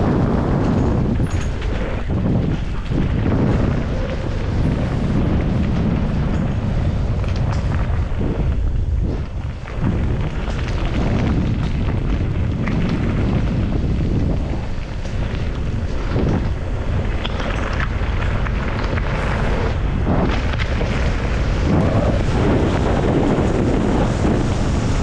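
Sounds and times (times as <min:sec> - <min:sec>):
bike knocking and rattling: 0:00.0 - 0:25.0
wind buffeting microphone: 0:00.0 - 0:25.0.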